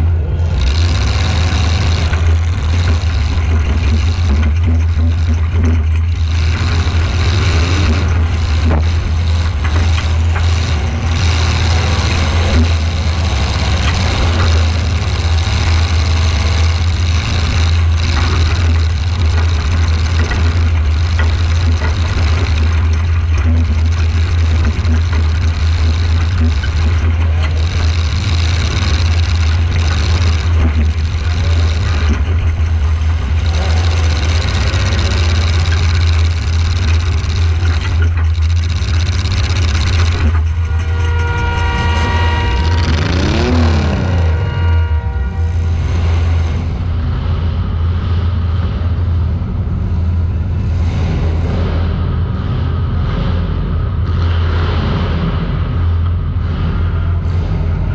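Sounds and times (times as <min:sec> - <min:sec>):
car engine running loud: 0:00.0 - 0:57.9.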